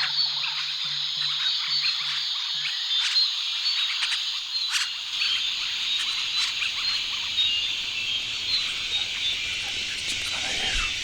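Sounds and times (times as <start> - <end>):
dense high insect buzz: 0.0 - 11.0
frogs chirping: 0.0 - 11.0.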